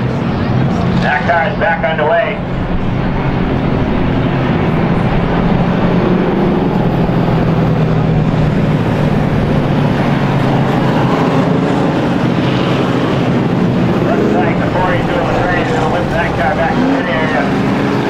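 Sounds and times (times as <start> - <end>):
race car engines at speed: 0.0 - 18.0.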